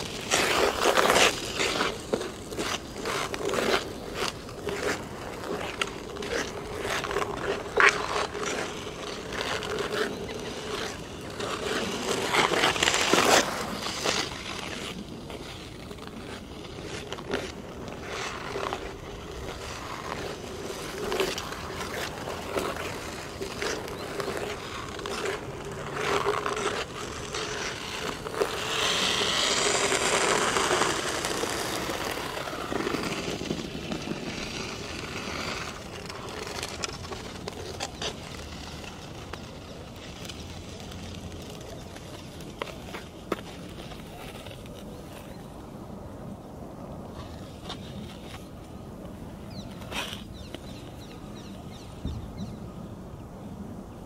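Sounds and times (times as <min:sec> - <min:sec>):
ice skates scraping on ice: 0:00.0 - 0:52.7.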